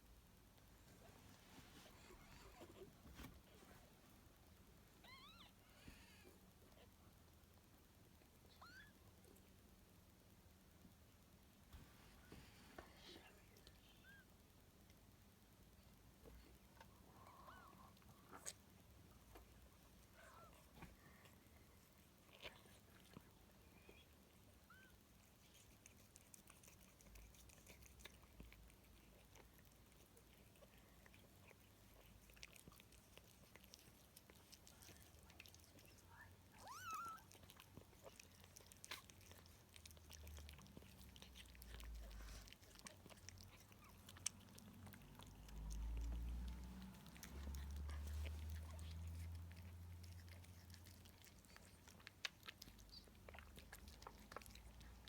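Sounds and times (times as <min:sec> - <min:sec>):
cat licking and chewing: 0:00.5 - 0:55.0.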